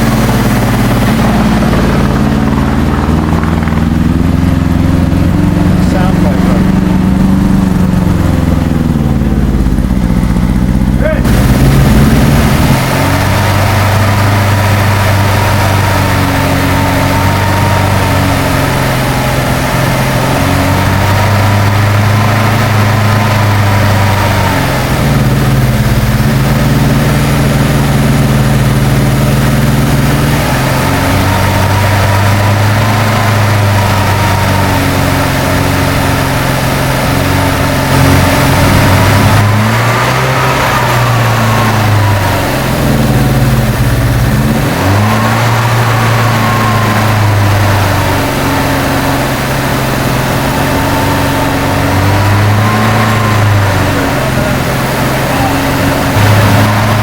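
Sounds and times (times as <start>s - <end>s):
car engine hunting idle: 0.0s - 57.0s.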